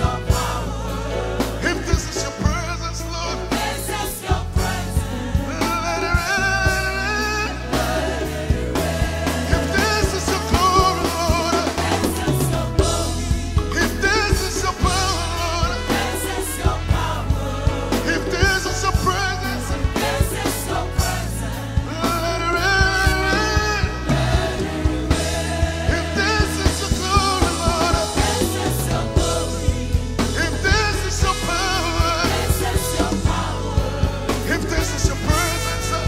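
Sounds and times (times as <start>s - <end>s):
drums steady beat: 0.0s - 36.0s
people singing: 0.0s - 36.0s
worship band playing: 0.0s - 36.0s.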